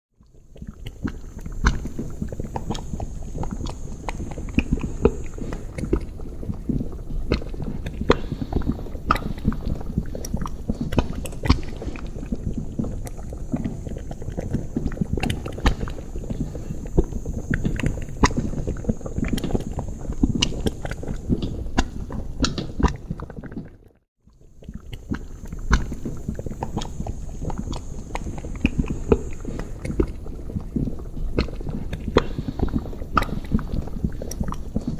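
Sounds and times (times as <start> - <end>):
thick liquid bubbling in cauldron: 0.2 - 34.9.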